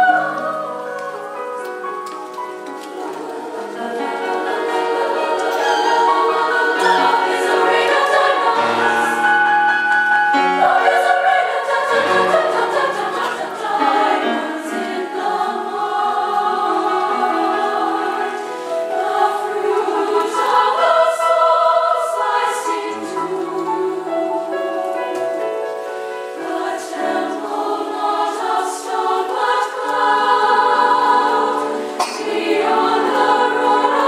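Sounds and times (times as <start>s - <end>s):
women's choir singing: 0.0s - 34.0s.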